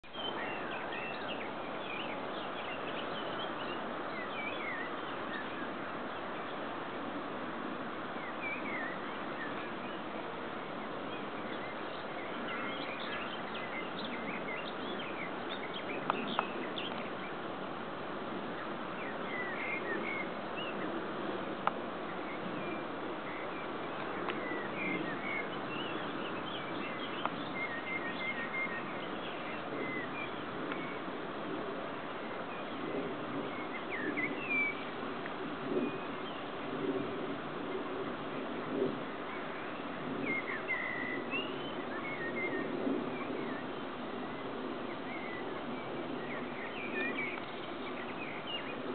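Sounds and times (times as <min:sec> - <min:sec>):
small birds chirping: 0:00.0 - 0:06.8, 0:08.1 - 0:17.5, 0:18.4 - 0:48.9
steady background hiss: 0:00.1 - 0:48.9.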